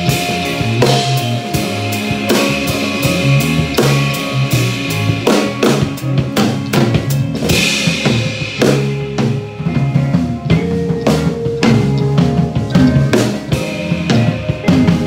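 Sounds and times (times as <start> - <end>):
electric guitar riff: 0.0 - 15.0
rock drum kit beat: 0.0 - 15.0.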